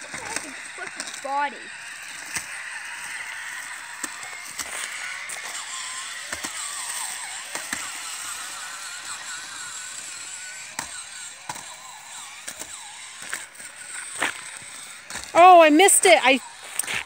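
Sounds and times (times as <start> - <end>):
toy electric motors whining: 0.0 - 17.0
wheels clicking and knocking: 0.0 - 17.0.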